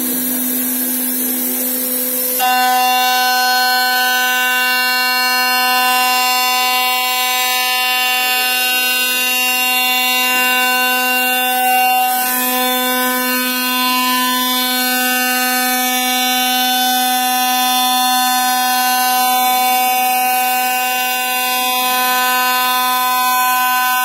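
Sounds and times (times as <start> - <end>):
milling machine whine: 0.0 - 24.0.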